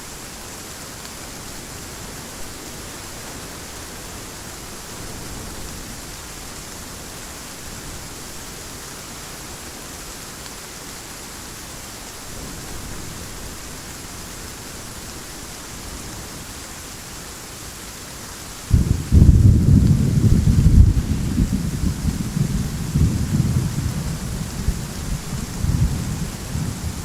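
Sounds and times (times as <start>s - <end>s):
heavy rain hissing: 0.0s - 27.0s.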